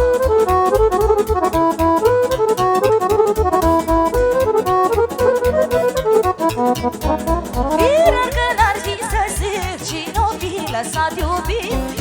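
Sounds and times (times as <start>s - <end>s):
accordion playing fast run: 0.0s - 9.8s
dance beat with bass and percussion: 0.0s - 12.0s.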